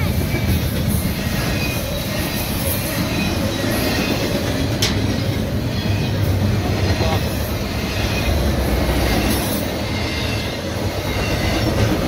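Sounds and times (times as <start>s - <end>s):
high wheel squeal: 0.0s - 12.0s
steel wheels rumbling on rails: 0.0s - 12.0s.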